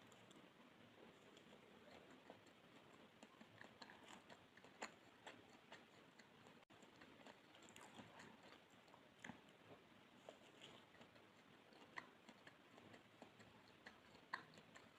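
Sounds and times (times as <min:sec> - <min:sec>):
mouth chewing soft cake: 0:00.0 - 0:14.9.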